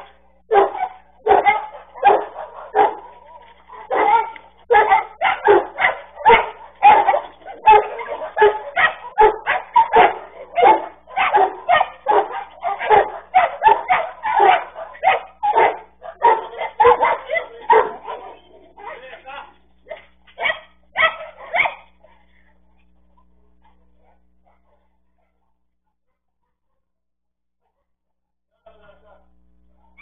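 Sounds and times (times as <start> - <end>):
dogs barking in a fight: 0.0 - 22.6, 23.2 - 25.5.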